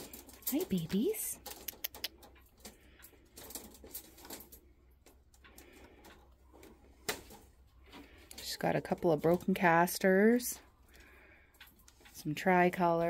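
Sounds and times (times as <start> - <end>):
rabbits hopping on wire mesh: 0.0 - 13.0.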